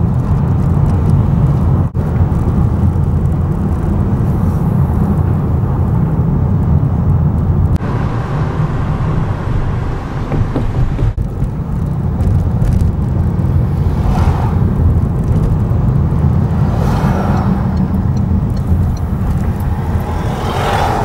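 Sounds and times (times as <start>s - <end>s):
car interior driving rumble: 0.0s - 21.0s
vehicles passing: 0.0s - 21.0s.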